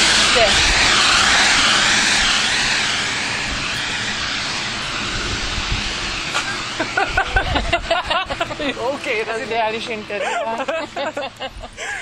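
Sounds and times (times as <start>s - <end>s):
passing vehicle rushing: 0.0s - 10.1s.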